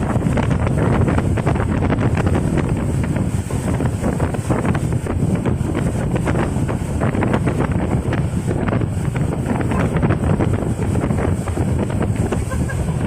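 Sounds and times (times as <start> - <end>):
water splashes: 0.0 - 13.0
wind rushing over microphone: 0.0 - 13.0.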